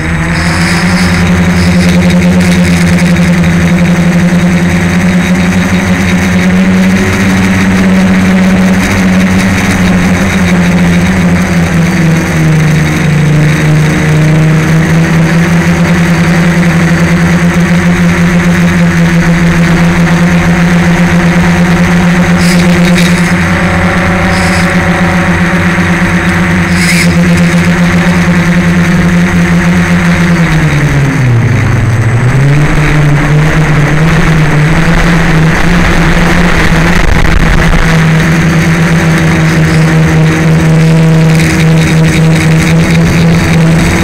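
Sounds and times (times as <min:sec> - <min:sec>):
quadcopter buzzing hum: 0:00.0 - 0:44.0.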